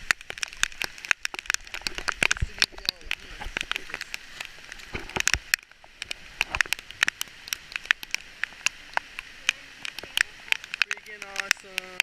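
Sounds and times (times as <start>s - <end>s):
heavy rain pouring: 0.0s - 12.0s
raindrops tapping near microphone: 0.0s - 12.0s.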